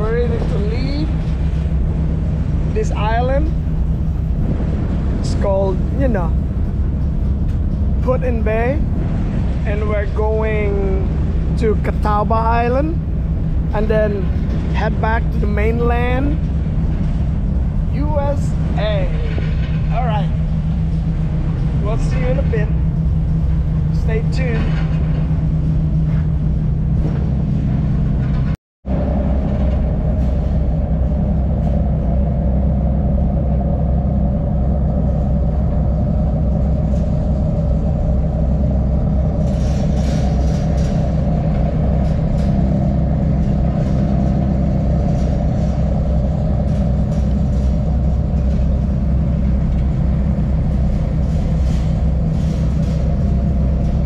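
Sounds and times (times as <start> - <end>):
ship engines rumbling: 0.0 - 54.0.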